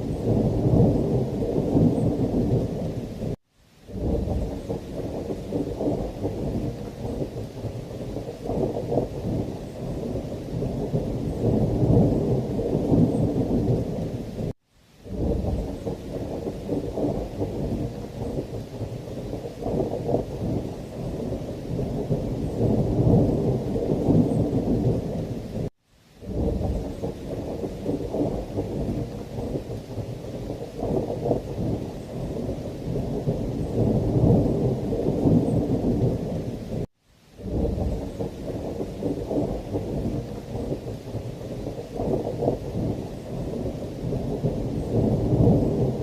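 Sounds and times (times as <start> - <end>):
heavy rain: 0.0 - 46.0
low rumbling thunder: 0.0 - 46.0.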